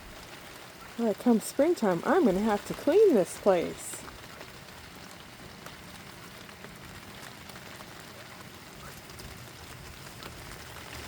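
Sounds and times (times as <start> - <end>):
light rain drizzle: 0.0 - 11.0.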